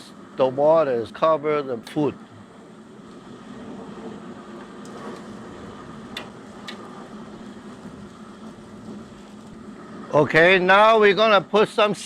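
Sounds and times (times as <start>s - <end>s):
pot simmering with hiss: 0.0s - 12.0s.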